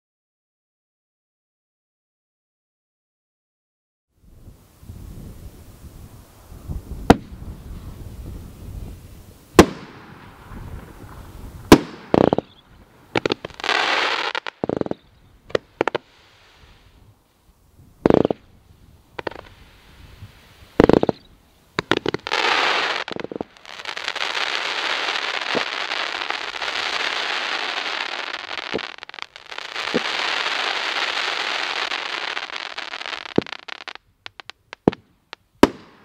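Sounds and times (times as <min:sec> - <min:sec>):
fireworks crackling: 0:04.7 - 0:36.0.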